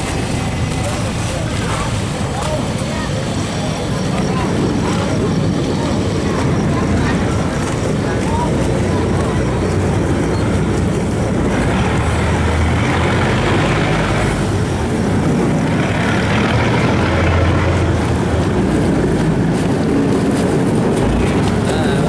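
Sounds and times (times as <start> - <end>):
barge engine running: 0.0 - 22.0.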